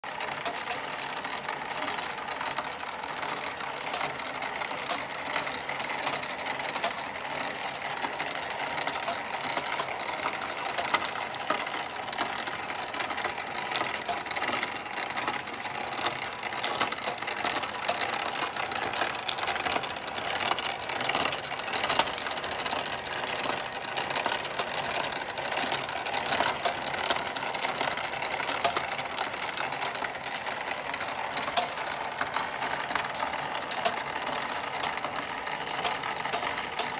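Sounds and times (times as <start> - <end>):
clattering rattle of toy machines: 0.0 - 36.9.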